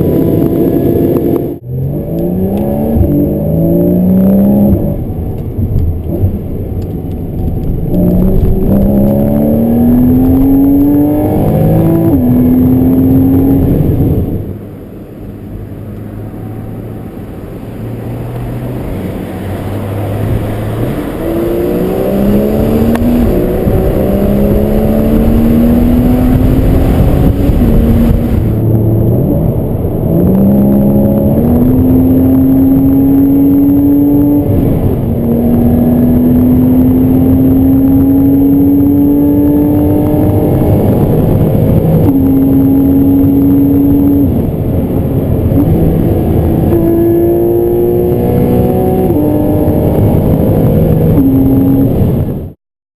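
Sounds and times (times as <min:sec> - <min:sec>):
sports car accelerating through gears: 0:00.0 - 0:14.5, 0:15.6 - 0:52.4.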